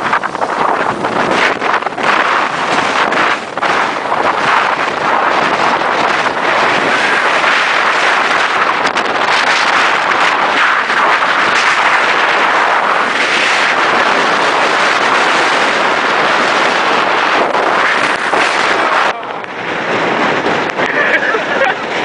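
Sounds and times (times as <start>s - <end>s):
hurricane wind buffeting microphone: 0.0s - 22.0s.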